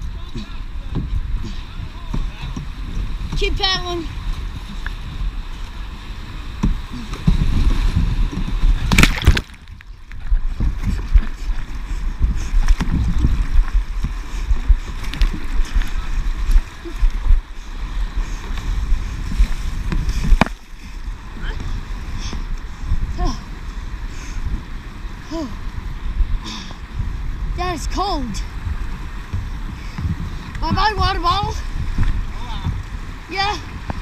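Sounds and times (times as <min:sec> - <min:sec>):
paddle strokes: 0:00.0 - 0:34.0
rumble on the microphone: 0:00.0 - 0:34.0
rushing splashing water: 0:00.0 - 0:34.0.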